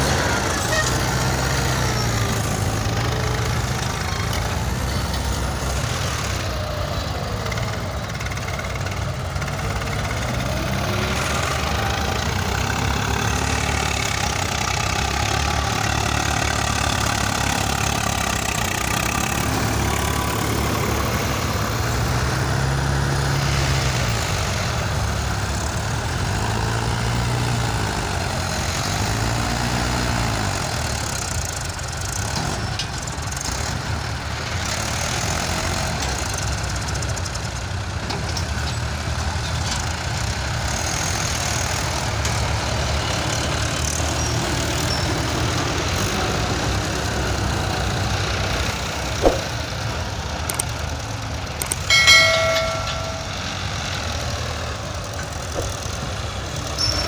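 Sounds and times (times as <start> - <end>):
diesel tractor engines under load: 0.0 - 57.0.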